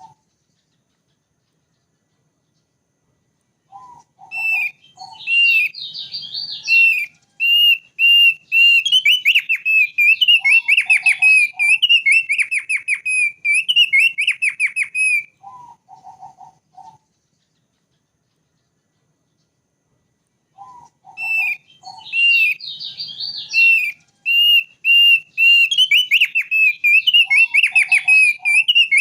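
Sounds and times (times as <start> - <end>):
bird singing whistled notes: 3.6 - 19.5, 20.5 - 29.0.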